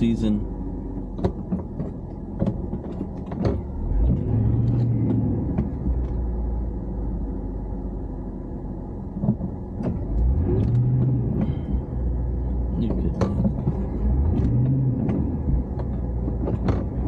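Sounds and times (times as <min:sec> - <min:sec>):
truck cab drone with knocks: 0:00.5 - 0:07.4, 0:08.9 - 0:17.0.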